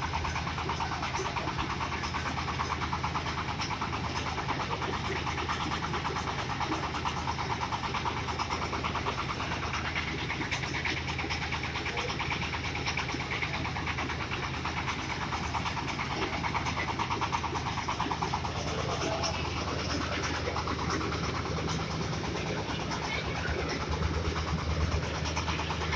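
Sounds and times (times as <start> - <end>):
corn sheller engine running: 0.0 - 25.9
fast machine rattle: 0.0 - 25.9.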